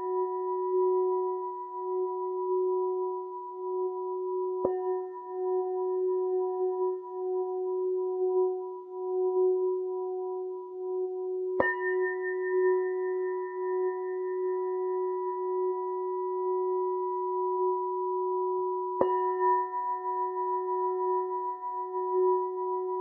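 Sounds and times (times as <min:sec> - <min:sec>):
singing bowl ringing: 0:00.0 - 0:23.0.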